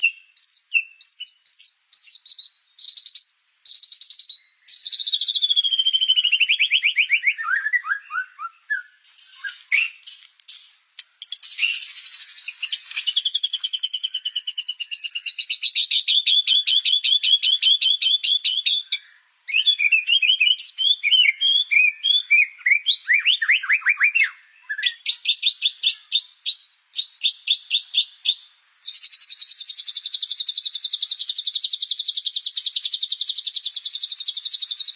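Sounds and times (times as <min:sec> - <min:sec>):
bird singing whistles: 0:00.0 - 0:10.0, 0:11.2 - 0:34.9.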